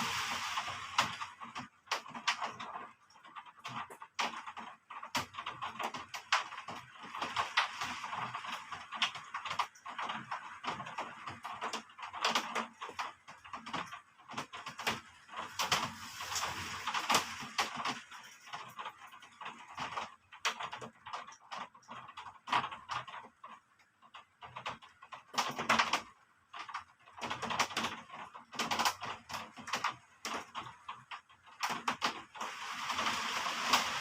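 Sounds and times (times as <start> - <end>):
rain pattering: 0.0 - 34.0.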